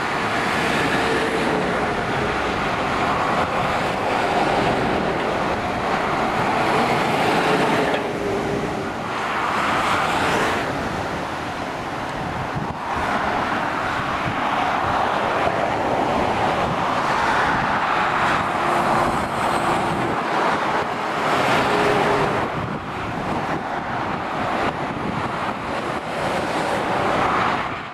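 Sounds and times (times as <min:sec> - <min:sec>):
motorway traffic passing: 0:00.0 - 0:27.9.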